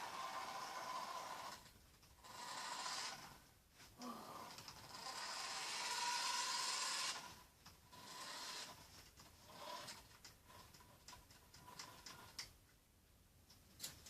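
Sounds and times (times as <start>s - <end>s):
toy car electric motor whirring: 0.0s - 3.4s, 4.0s - 12.5s.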